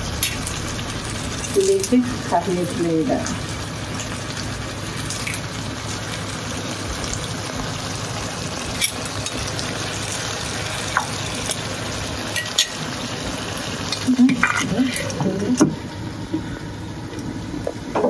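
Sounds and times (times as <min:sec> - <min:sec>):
chicken sizzling in a wok: 0:00.0 - 0:17.9.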